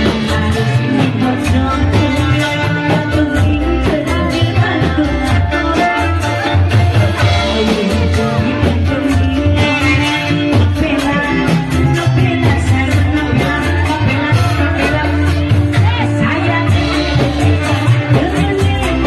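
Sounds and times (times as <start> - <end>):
bass line: 0.0 - 19.0
steady drum beat: 0.0 - 19.0
woman singing into a microphone: 0.0 - 19.0.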